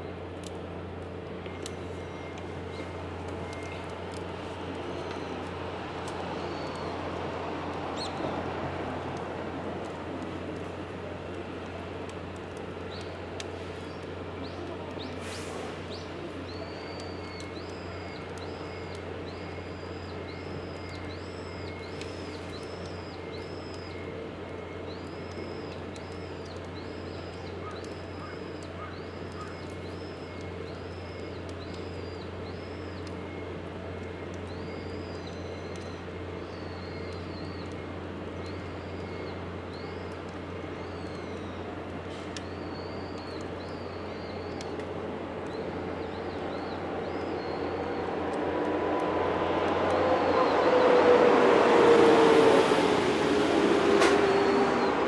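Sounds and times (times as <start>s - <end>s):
wood fire crackling and popping: 0.2s - 48.8s.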